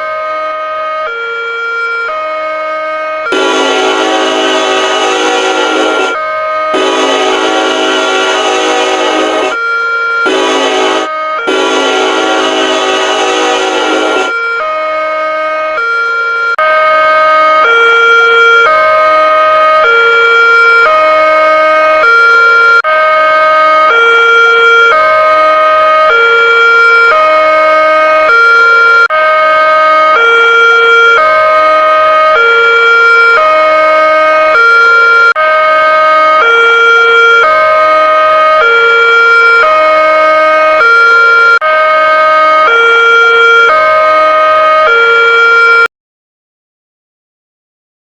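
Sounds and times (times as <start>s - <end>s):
railroad crossing alarm: 0.0s - 45.9s.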